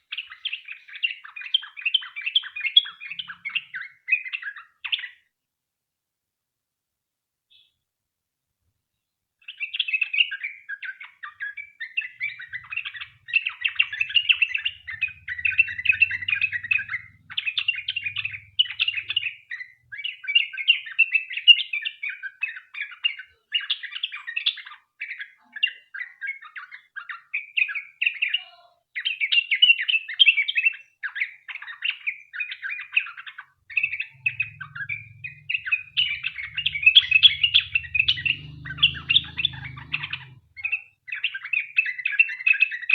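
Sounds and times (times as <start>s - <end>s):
bird singing chattering song: 0.0s - 5.2s, 9.5s - 42.9s.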